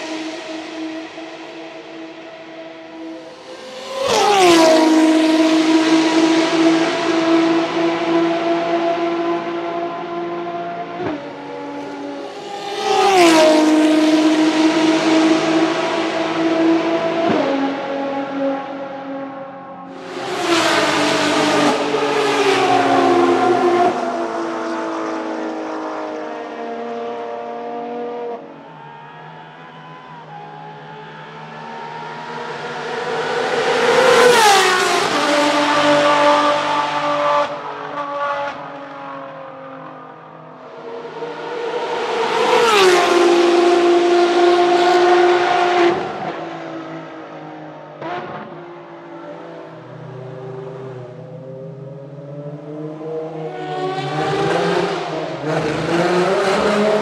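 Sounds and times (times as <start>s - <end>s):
race car engine revving: 0.0s - 18.9s, 19.9s - 28.4s, 29.9s - 38.7s, 40.4s - 47.1s, 48.0s - 57.0s.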